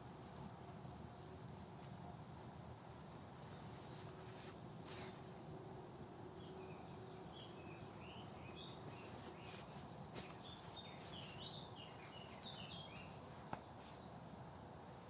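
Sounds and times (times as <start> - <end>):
steady background hiss: 0.0 - 15.0
faint songbird chirping: 1.2 - 5.4, 6.2 - 15.0.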